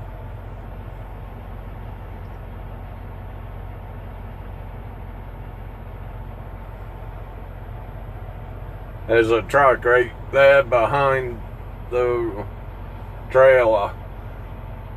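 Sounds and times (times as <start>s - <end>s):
diesel truck engine idling: 0.0s - 14.9s.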